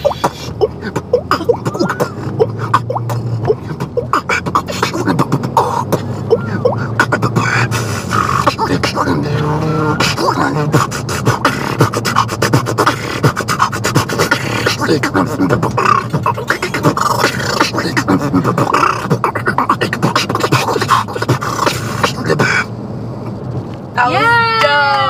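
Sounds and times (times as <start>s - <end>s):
sliding hummed notes: 0.0s - 22.4s
beatboxing clicks and pops: 0.0s - 22.7s.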